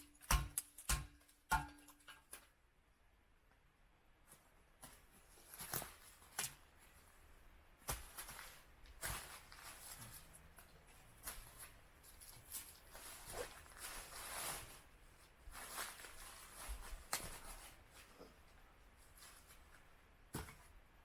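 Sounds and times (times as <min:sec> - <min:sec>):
faint rustling and crunching: 0:04.2 - 0:21.0.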